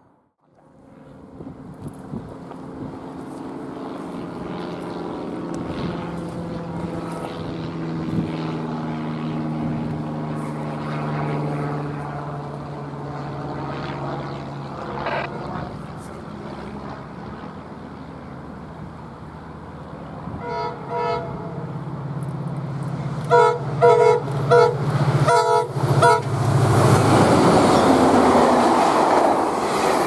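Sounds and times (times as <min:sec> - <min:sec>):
diesel locomotive engine drone: 0:00.5 - 0:30.0.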